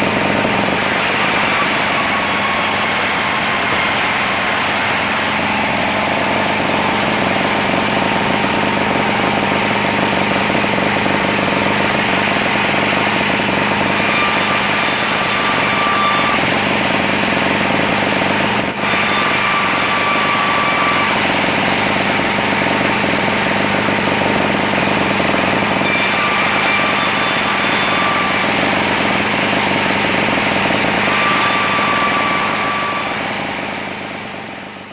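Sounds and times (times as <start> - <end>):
high machine whine: 0.0 - 34.9
sawmill machinery running: 0.0 - 34.9.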